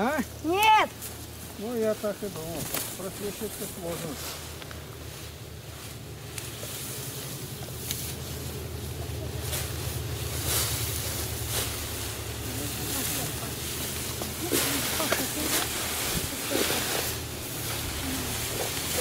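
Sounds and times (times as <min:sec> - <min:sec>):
cut grass rustling: 0:00.0 - 0:19.0.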